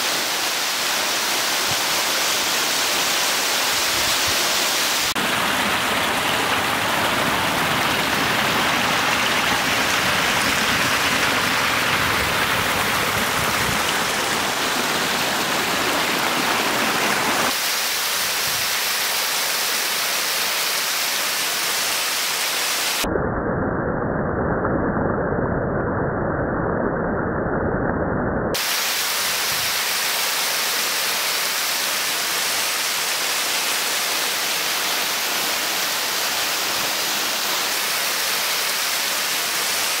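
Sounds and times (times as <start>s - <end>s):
waterfall rushing and splashing: 0.0s - 23.0s, 28.6s - 40.0s.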